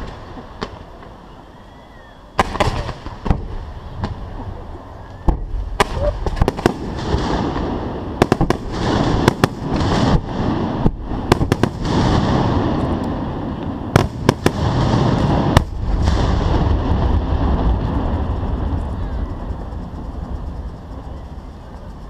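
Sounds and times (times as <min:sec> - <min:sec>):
continuous rush of noise: 0:00.0 - 0:22.0.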